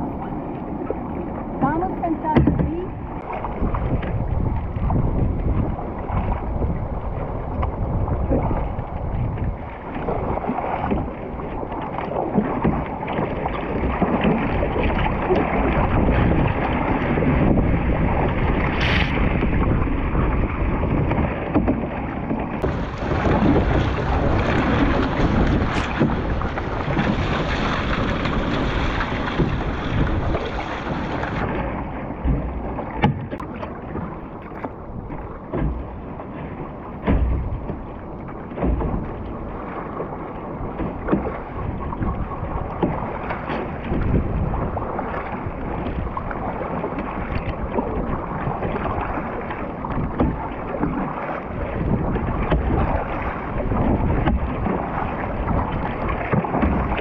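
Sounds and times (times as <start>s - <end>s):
paddle blades splashing: 0.0s - 57.0s
water slapping against hull: 0.0s - 57.0s
wind noise on microphone: 0.0s - 57.0s.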